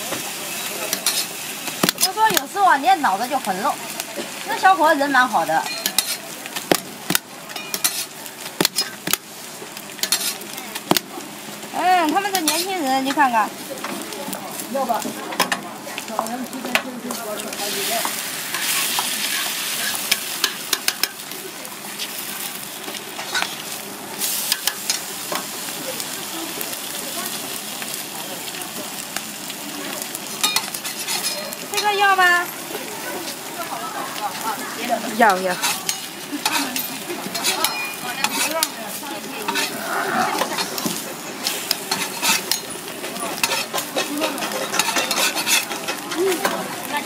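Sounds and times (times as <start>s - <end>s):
food sizzling on griddle: 0.0s - 47.0s.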